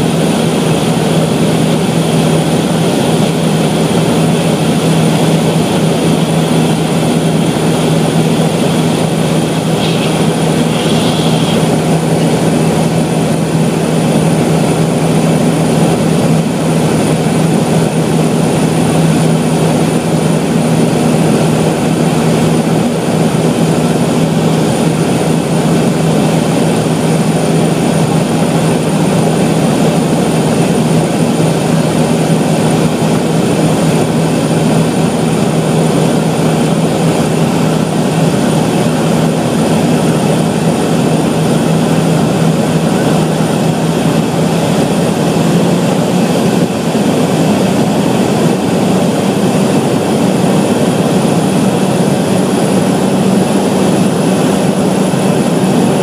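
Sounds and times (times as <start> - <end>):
turboprop engine droning in cabin: 0.0 - 56.0.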